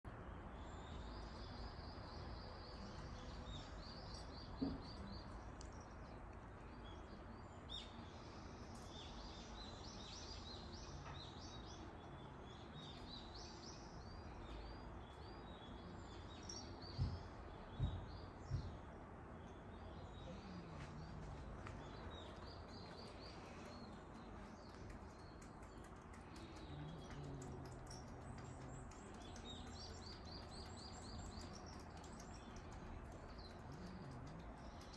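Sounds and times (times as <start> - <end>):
outdoor background hiss: 0.1 - 34.9
small birds chirping: 0.1 - 34.9.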